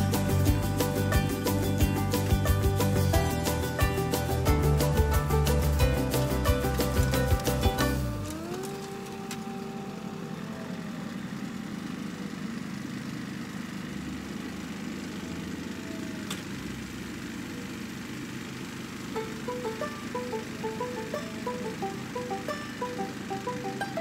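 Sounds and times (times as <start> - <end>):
snow thrower engine running: 0.0 - 24.0.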